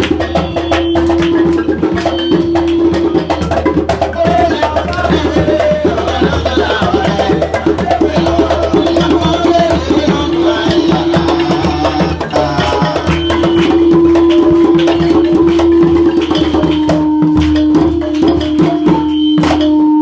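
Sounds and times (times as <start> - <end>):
balafon struck with mallets: 0.0 - 20.0.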